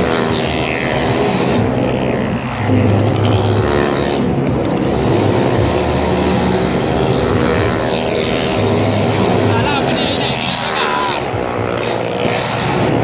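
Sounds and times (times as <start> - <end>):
motorcycle engines running hard: 0.0 - 13.0.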